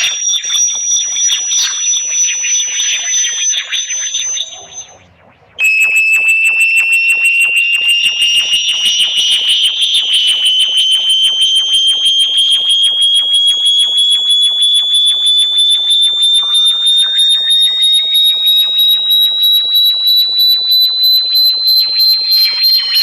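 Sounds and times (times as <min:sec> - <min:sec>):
pulsing high-pitched electronic tone: 0:00.0 - 0:23.0.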